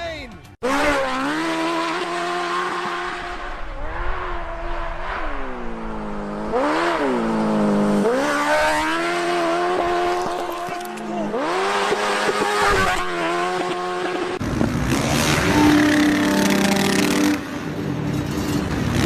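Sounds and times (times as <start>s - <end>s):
motorcycle engine revving: 0.6s - 19.0s.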